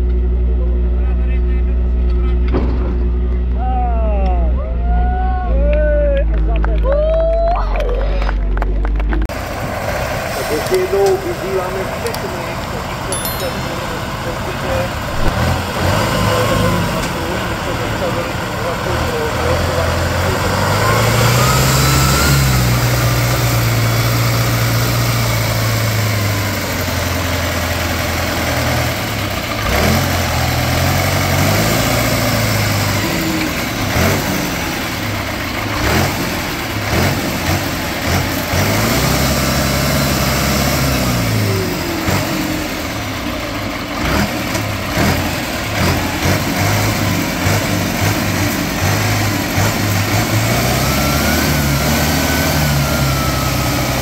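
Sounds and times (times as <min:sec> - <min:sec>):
diesel engine revving: 0:07.8 - 0:13.1, 0:13.7 - 0:54.0.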